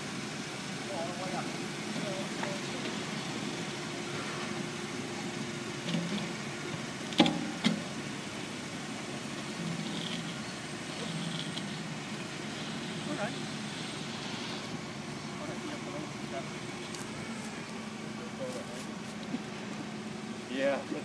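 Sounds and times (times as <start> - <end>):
forklift engine idling: 0.0 - 21.0.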